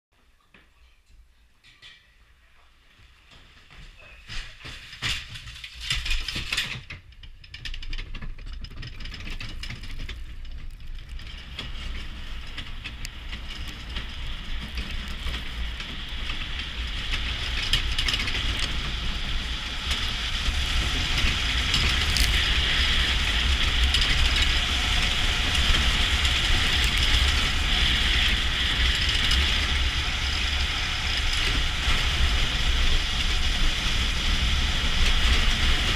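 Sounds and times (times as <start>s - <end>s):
bobsled runners rumbling on ice: 3.0s - 35.9s.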